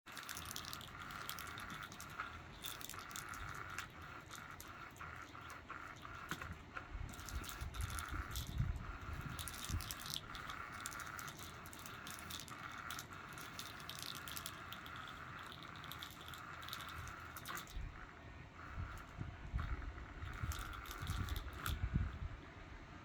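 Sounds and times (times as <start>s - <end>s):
rattles and clicks: 0.1s - 22.2s
cat toy whirring: 0.1s - 23.0s.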